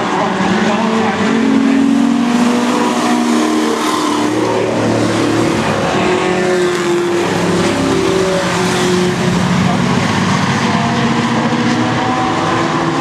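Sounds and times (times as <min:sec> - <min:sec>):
racing truck engines: 0:00.0 - 0:13.0.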